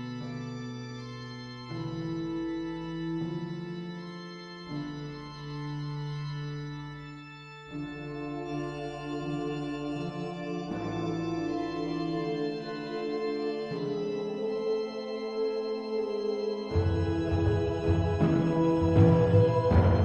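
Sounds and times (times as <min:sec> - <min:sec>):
organ-like keyboard chords: 0:00.0 - 0:20.0.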